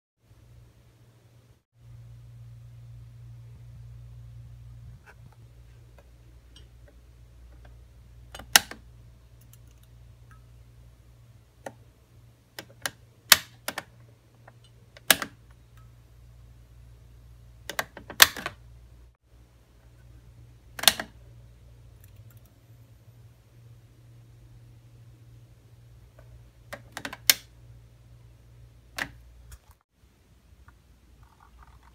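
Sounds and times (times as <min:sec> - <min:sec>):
fluorescent light low hum: 0:00.2 - 0:31.9.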